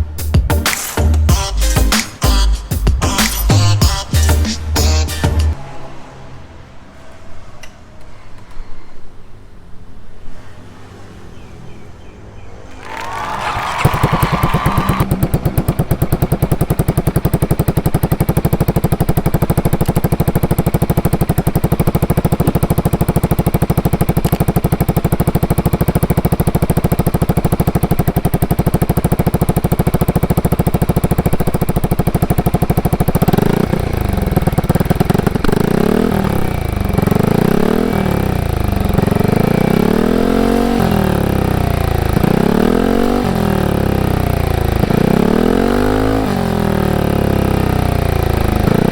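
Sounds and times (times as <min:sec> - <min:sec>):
scooter engine idling and revving: 0:00.0 - 0:08.5, 0:09.3 - 0:48.9.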